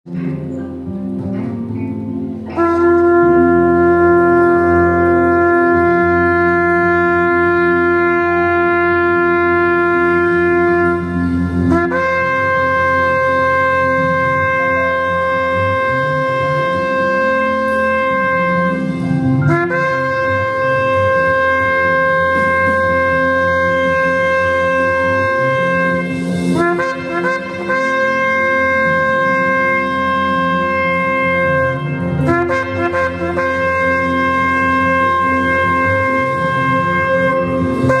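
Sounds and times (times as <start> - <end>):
backing music: 0.1 - 38.0
ram's horn blasts: 2.5 - 38.0.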